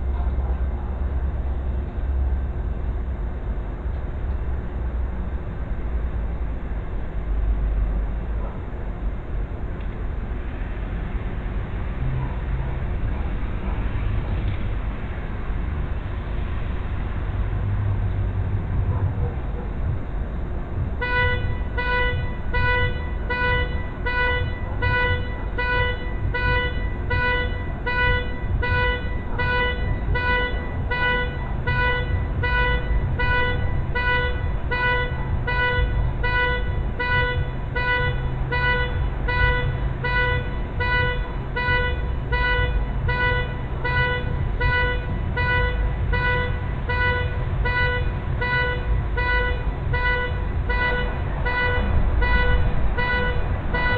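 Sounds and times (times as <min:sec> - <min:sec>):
steady low hum: 0:00.0 - 0:53.9
vehicle idling rumble: 0:00.0 - 0:53.9.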